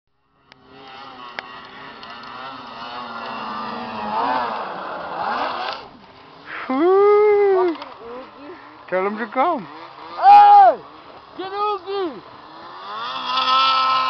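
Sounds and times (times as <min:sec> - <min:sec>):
snowmobile engine at high revs: 0:00.2 - 0:14.0.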